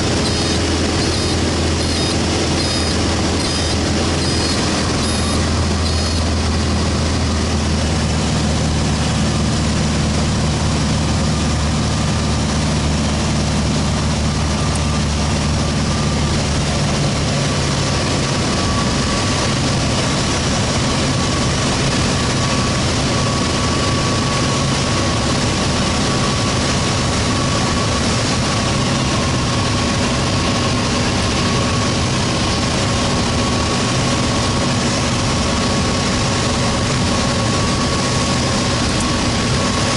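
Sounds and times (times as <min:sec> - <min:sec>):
light airplane engine droning: 0:00.0 - 0:39.9.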